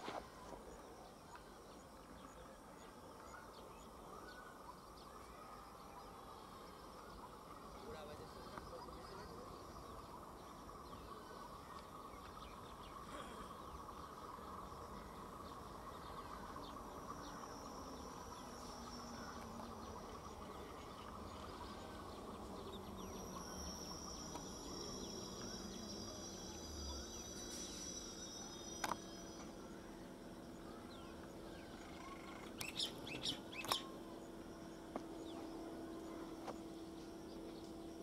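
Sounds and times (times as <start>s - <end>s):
electric train hum: 6.4s - 38.0s.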